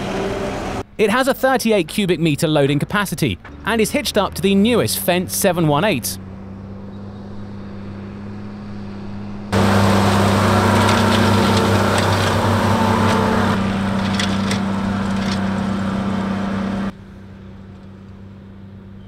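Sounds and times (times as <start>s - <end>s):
tractor diesel engine under load: 0.0s - 18.6s.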